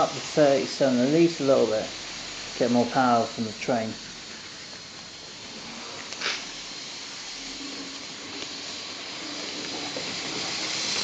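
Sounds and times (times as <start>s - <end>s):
model locomotive motor whirring: 0.0s - 11.0s.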